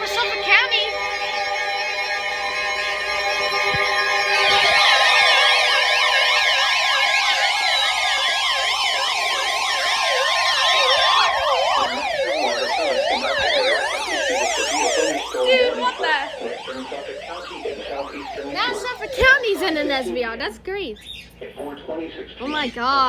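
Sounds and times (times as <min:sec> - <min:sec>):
slow falling siren tones: 0:00.0 - 0:20.4
warbling electronic siren: 0:00.0 - 0:20.5.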